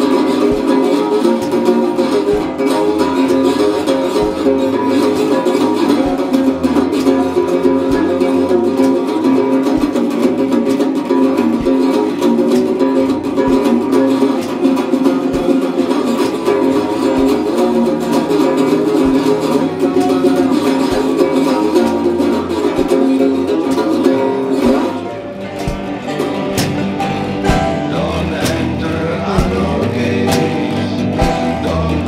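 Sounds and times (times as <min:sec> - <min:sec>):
bass: 0:00.0 - 0:32.0
guitar plucked and strummed: 0:00.0 - 0:32.0.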